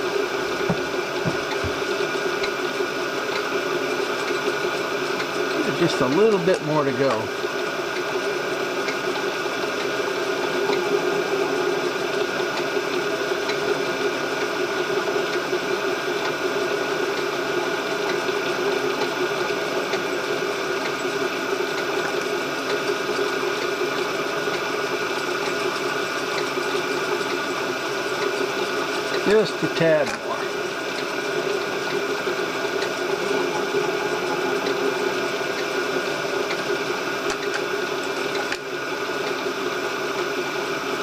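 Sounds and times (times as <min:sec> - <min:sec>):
machine tool motor hum and rattle: 0:00.0 - 0:41.0.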